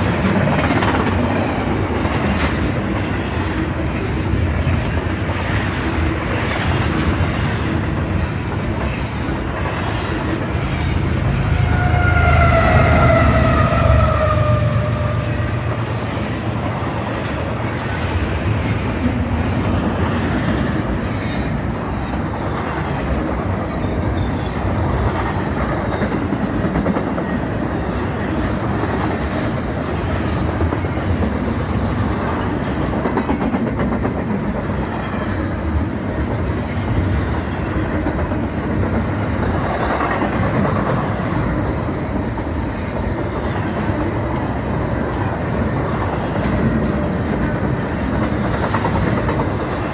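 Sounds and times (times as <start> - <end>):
freight train wheels on rails: 0.0 - 49.9.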